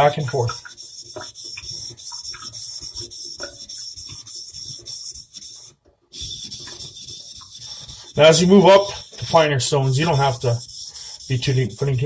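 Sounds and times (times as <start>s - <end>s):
knife sharpening on whetstone: 0.6s - 5.6s, 6.2s - 9.2s, 10.0s - 12.0s.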